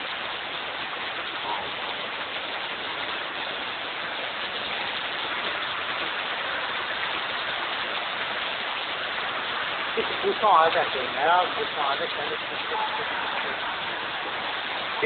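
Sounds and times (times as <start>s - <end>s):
steady hiss of flood water: 0.0s - 15.0s.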